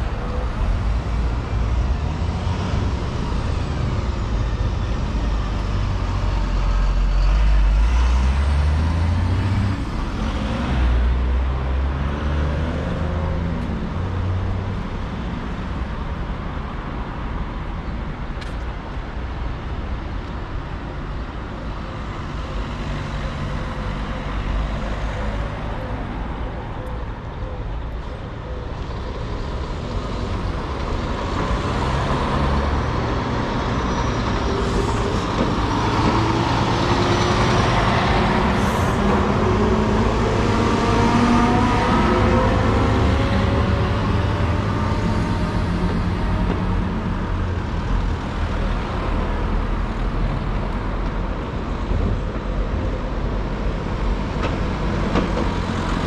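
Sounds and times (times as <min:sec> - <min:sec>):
bus pulling away: 0:00.0 - 0:56.0
road traffic noise: 0:00.0 - 0:56.0.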